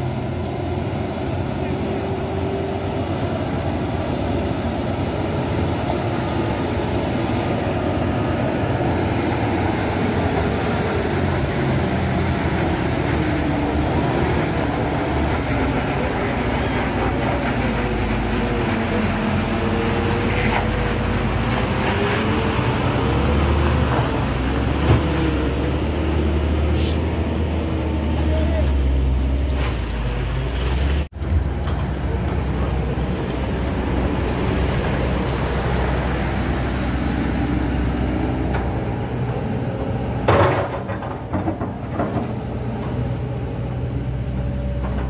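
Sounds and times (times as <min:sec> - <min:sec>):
diesel truck engine climbing: 0:00.0 - 0:45.0.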